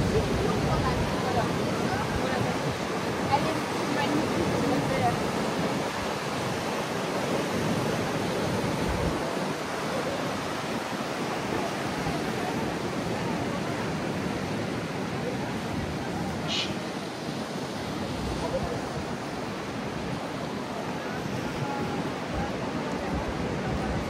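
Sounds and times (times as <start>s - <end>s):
ocean surf breaking: 0.0s - 24.0s
wind gusting on microphone: 0.0s - 24.0s.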